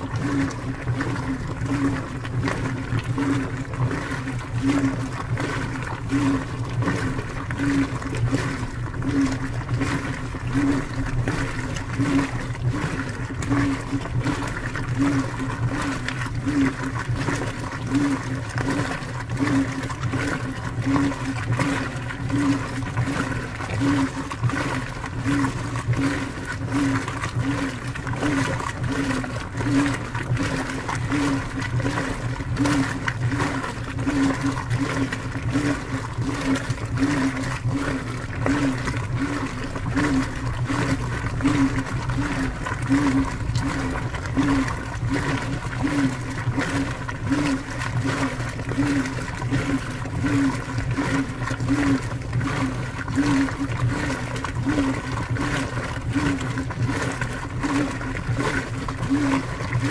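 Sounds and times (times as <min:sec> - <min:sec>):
washing machine motor pulsing hum: 0:00.0 - 0:59.9
water and clothes sloshing: 0:00.0 - 0:59.9.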